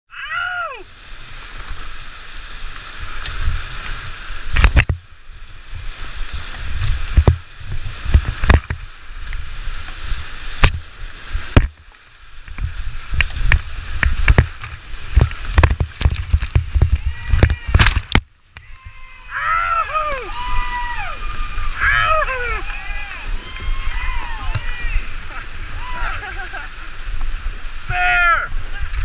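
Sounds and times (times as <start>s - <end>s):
rushing whitewater: 0.2s - 29.0s.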